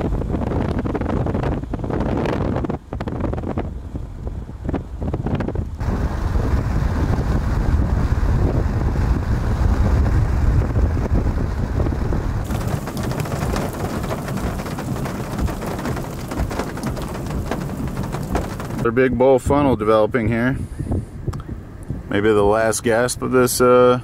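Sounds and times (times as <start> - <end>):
wind and rain hiss: 0.0 - 19.5
wind buffeting microphone: 0.0 - 23.1.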